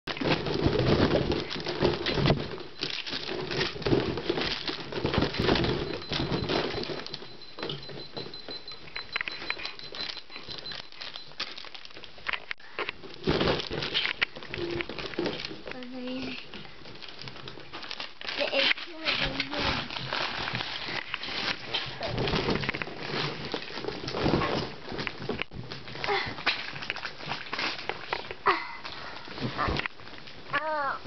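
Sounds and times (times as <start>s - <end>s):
balloons knocking and squeaking: 0.0s - 31.0s.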